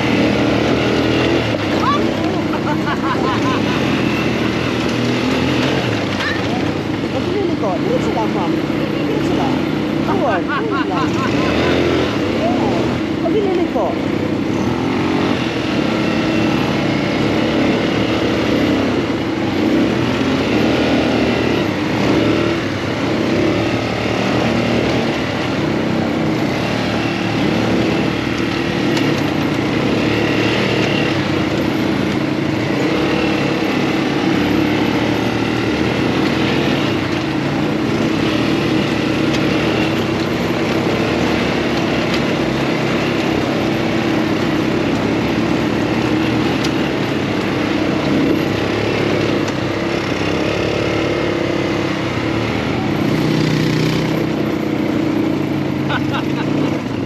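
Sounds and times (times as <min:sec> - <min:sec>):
buggy engine droning: 0:00.0 - 0:57.0.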